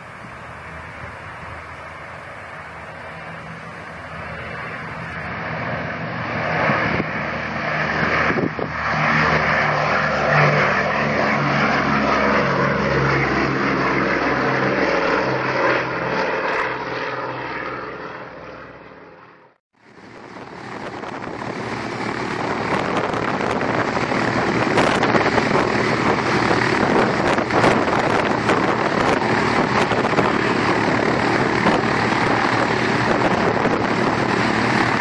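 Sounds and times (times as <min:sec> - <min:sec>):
propeller aircraft engines drone: 0:00.0 - 0:35.0.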